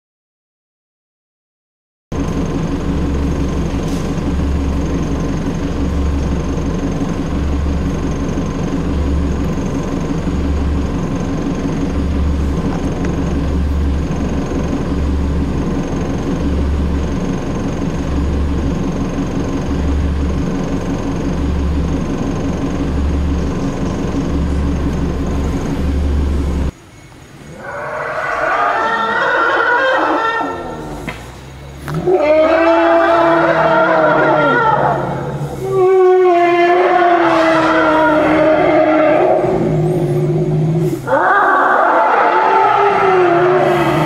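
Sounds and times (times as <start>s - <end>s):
vehicle engine running: 2.1s - 28.5s, 29.2s - 44.0s.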